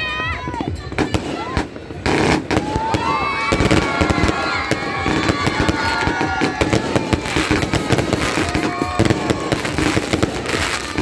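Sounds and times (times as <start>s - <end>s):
fireworks bangs and crackles: 0.0s - 11.0s
fireworks whistling: 0.2s - 11.0s.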